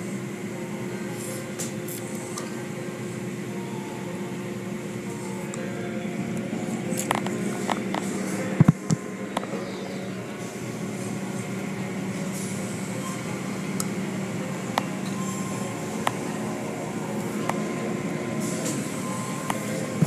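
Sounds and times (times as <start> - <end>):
machinery hum: 0.0 - 20.0.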